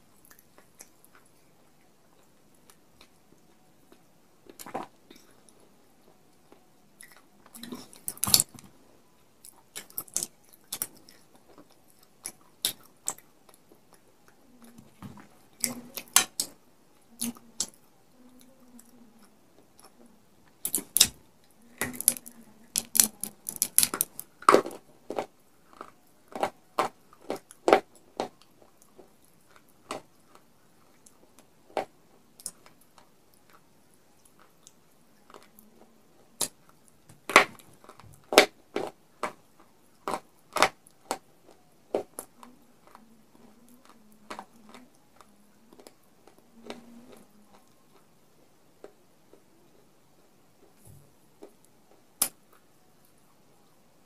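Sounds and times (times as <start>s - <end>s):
crunching and chewing clay pieces: 0.2s - 53.8s.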